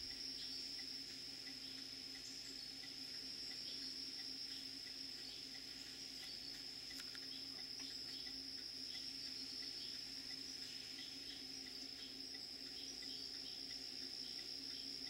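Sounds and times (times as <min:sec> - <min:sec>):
crickets trilling: 0:00.0 - 0:15.0
faint low hum: 0:00.0 - 0:15.0
insect chirping: 0:00.0 - 0:15.0.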